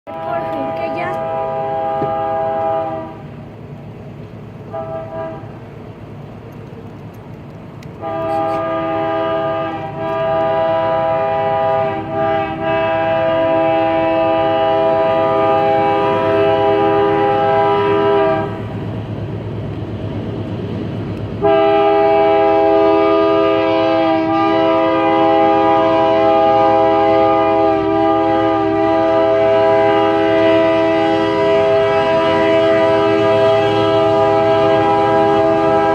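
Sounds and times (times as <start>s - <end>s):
train engine and wheels rumbling: 0.0s - 35.9s
locomotive air horn chord: 0.1s - 3.2s, 4.7s - 5.6s, 8.0s - 18.7s, 21.4s - 35.9s.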